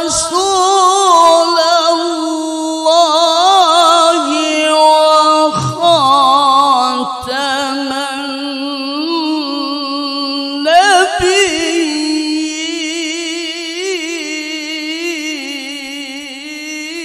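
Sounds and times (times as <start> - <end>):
man reciting melodically: 0.0 - 9.7, 10.3 - 17.0.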